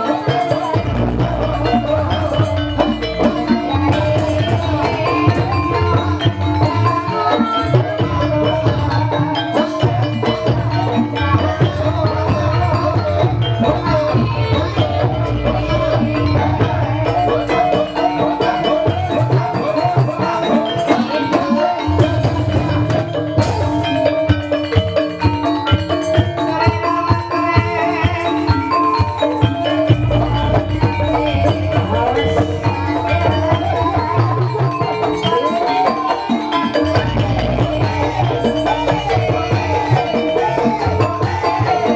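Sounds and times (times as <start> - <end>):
hand-drum beats: 0.0 - 41.9
keyed mallet instruments melody: 0.0 - 41.9.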